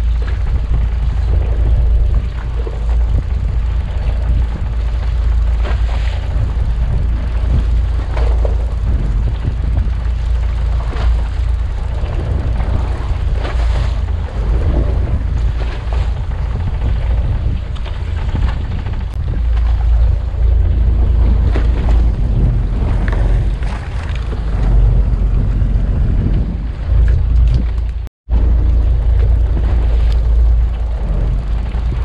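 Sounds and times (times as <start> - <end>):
water splashing against boat: 0.0 - 32.0
wind buffeting microphone: 0.0 - 32.0.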